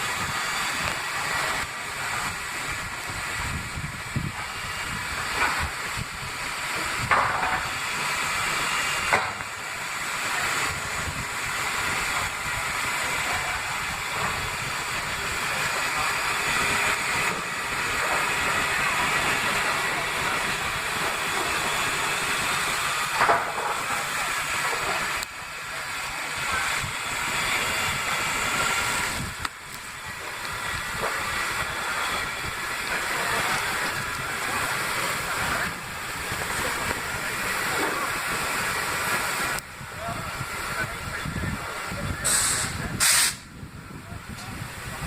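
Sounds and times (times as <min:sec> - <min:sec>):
steam locomotive hissing: 0:00.0 - 0:45.0.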